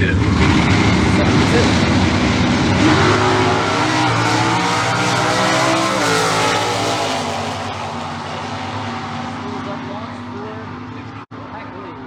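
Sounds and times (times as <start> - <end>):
drag cars accelerating: 0.0 - 12.0.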